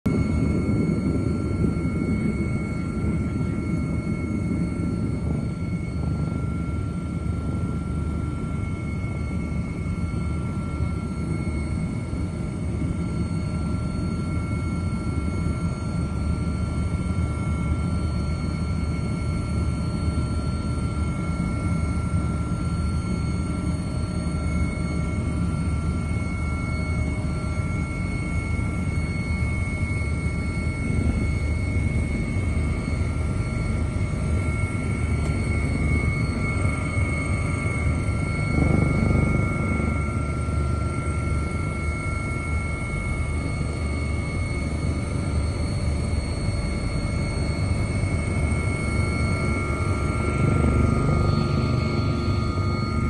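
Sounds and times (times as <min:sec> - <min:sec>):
helicopter engine and rotor rumble: 0:00.0 - 0:53.0
thin steady high tones: 0:00.1 - 0:53.0.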